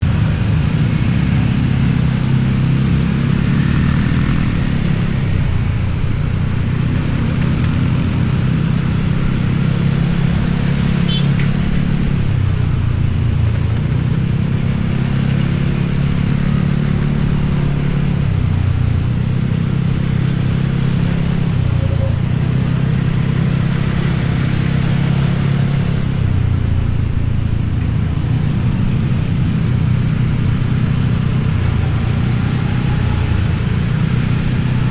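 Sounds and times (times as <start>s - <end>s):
vehicle engine revving: 0.0s - 34.9s.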